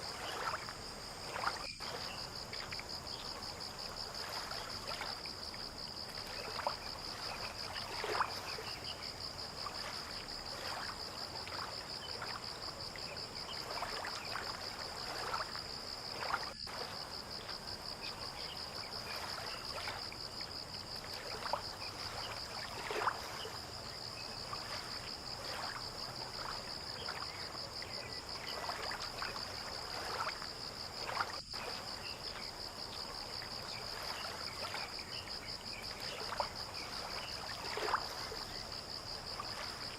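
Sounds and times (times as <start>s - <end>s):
insects chirring: 0.0s - 39.9s
small splashes: 0.0s - 39.9s
water lapping: 0.0s - 39.9s.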